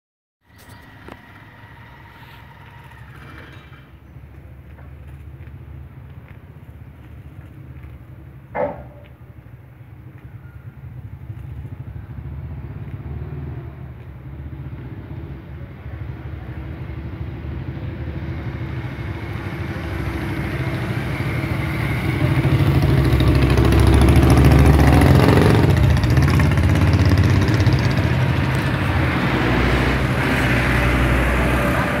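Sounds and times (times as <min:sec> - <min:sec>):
vehicle engine running: 0:00.6 - 0:32.0.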